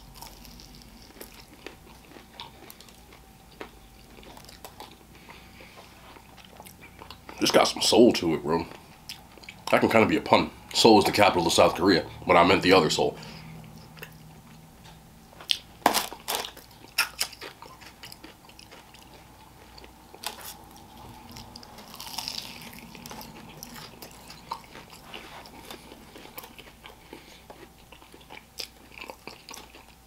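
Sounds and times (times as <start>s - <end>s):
chewing with small crackles: 0.0s - 10.0s, 12.6s - 30.0s
crunching fried chicken: 0.0s - 10.0s, 15.4s - 30.0s.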